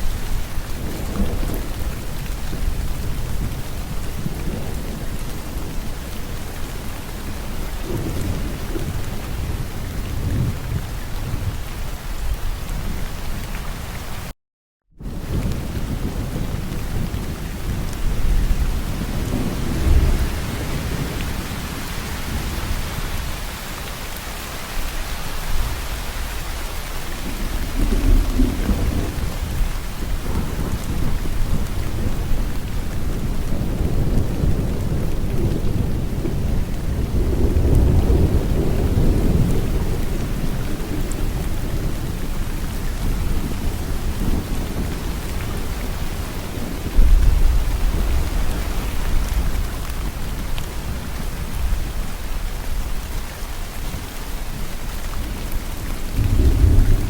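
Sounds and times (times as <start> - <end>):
low thunder rumbling: 0.0 - 11.7, 15.0 - 23.6, 25.5 - 57.0
steady rain falling: 0.0 - 14.3, 15.0 - 57.0.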